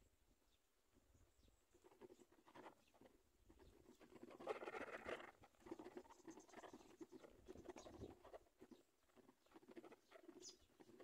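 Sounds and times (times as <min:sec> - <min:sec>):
faint rapid scratchy patter: 0:01.7 - 0:11.0.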